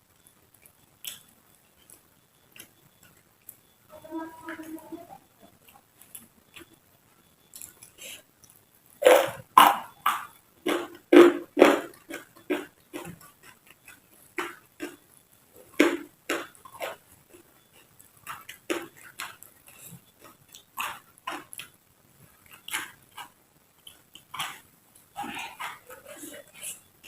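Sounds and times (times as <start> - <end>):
chewing and crunching vegetables: 0.2 - 27.0.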